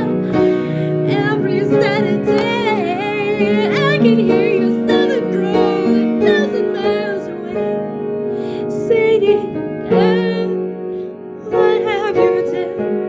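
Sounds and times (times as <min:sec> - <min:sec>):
person singing with vibrato: 0:00.0 - 0:07.8, 0:08.4 - 0:13.0.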